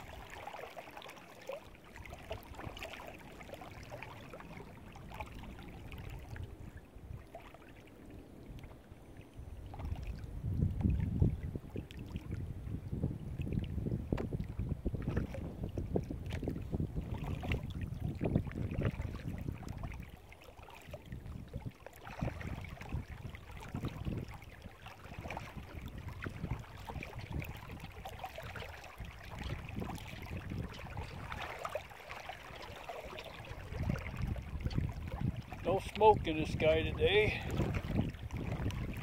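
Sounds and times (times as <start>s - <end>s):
waves lapping against kayak hull: 0.0s - 39.0s
wind buffeting microphone: 3.8s - 7.4s, 9.4s - 20.2s, 20.8s - 39.0s.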